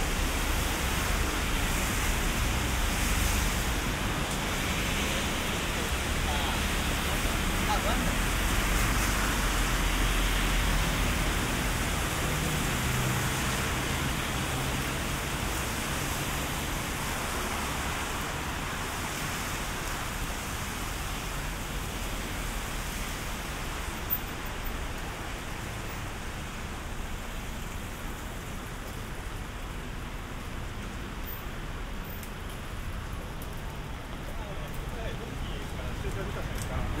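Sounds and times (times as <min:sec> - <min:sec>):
rain hissing on street: 0:00.0 - 0:37.0.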